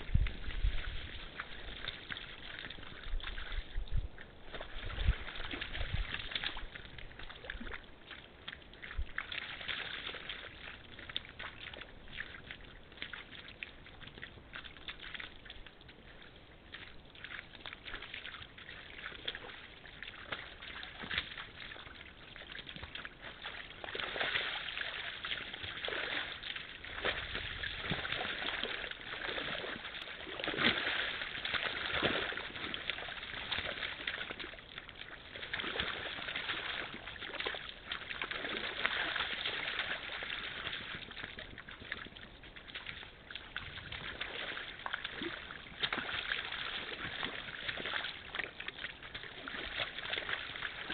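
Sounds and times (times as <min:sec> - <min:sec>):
deer splashing in muddy water: 0:00.0 - 0:50.9.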